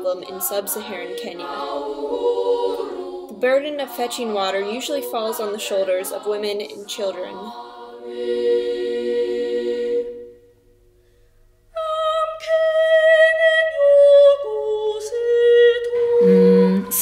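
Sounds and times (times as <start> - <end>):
unaccompanied singing voices: 0.0 - 10.4, 11.8 - 17.0.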